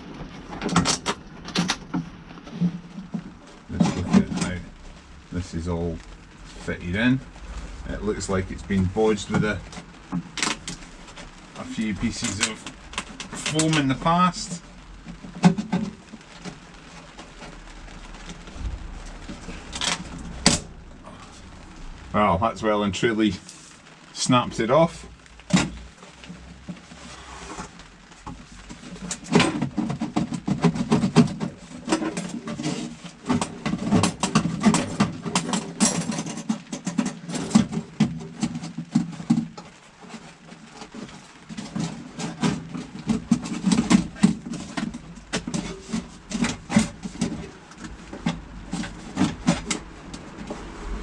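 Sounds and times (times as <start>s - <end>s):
hands rustling and knocking plastic: 0.0s - 22.0s, 25.1s - 51.0s.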